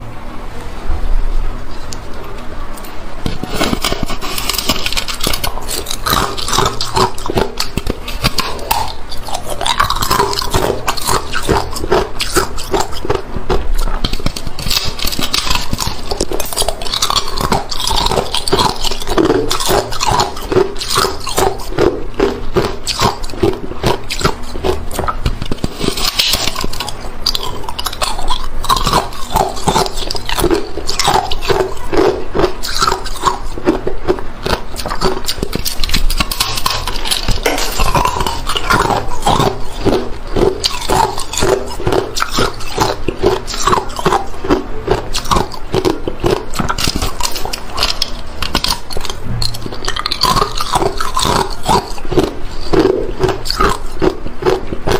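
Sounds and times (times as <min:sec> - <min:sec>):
ice cubes crunching in teeth: 0:03.3 - 0:54.9.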